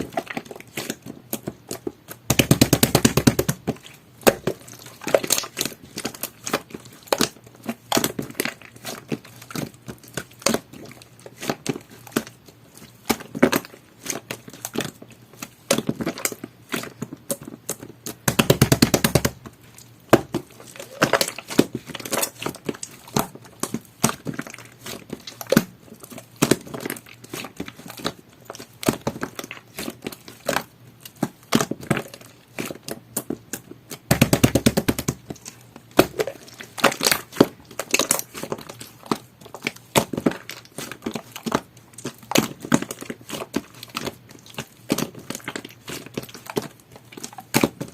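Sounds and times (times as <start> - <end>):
rapid crackling slime pops: 0.0 - 47.9.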